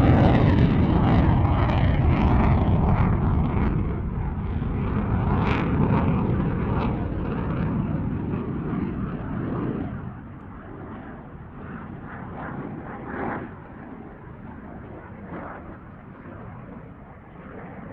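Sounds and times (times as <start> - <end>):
jet engines rumbling with crackle: 0.0 - 17.9.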